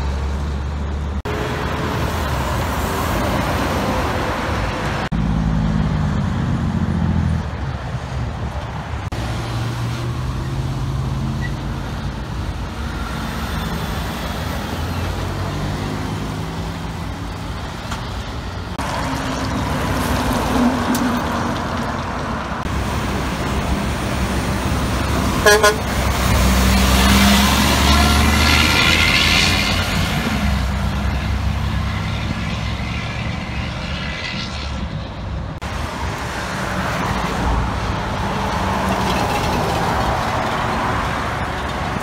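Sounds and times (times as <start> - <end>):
heavy truck diesel engines: 0.0 - 42.0
road traffic noise: 0.0 - 42.0.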